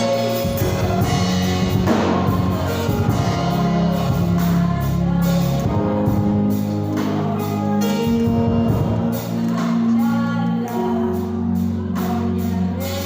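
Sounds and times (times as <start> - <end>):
gospel band with strong bass: 0.0 - 13.0
gospel singing: 0.0 - 13.0.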